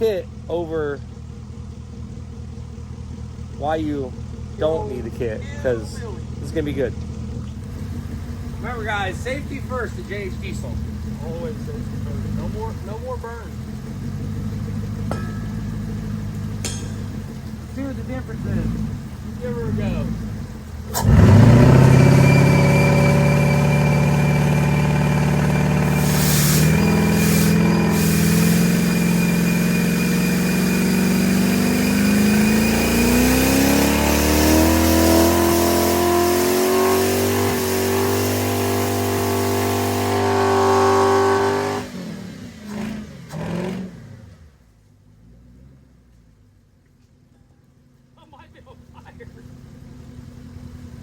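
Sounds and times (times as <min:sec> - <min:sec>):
engine blips: 0:00.0 - 0:44.6
car engine revving high: 0:03.6 - 0:44.6.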